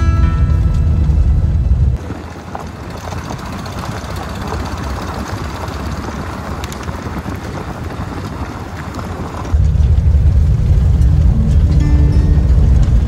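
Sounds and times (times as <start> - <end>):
vehicle road and engine noise: 0.0 - 13.0.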